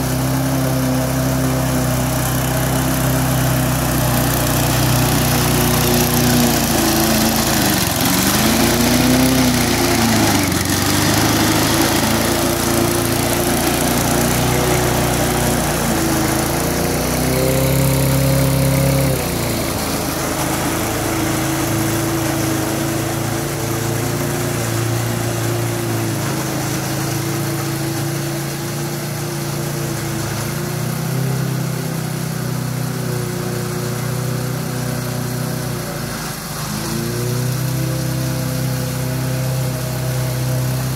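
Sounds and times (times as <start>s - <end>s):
small petrol engine running: 0.0s - 40.9s.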